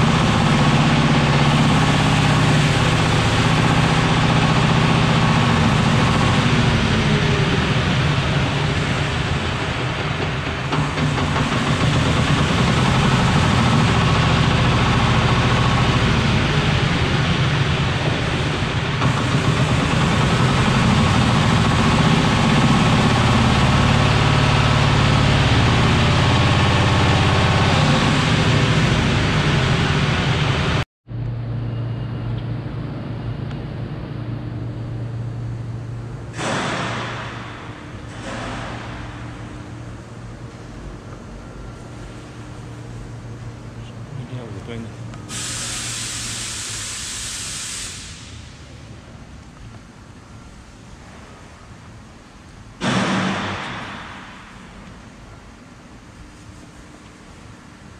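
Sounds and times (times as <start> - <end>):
forklift diesel engine running: 0.0 - 57.9.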